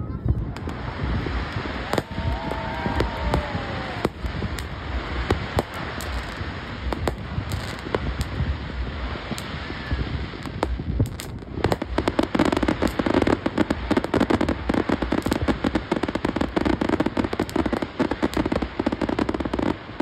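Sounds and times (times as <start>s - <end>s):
low rumble: 0.0s - 19.0s
fireworks bangs and crackles: 0.0s - 20.0s
fireworks whistles: 0.5s - 20.0s.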